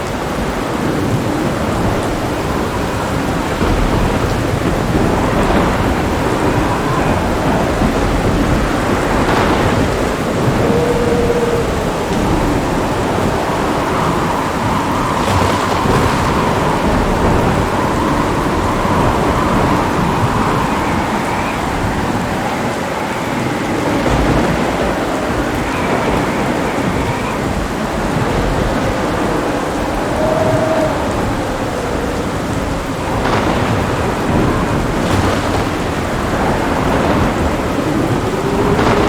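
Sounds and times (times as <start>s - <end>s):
heavy rain: 0.0s - 39.0s
rolling thunder: 0.0s - 39.0s.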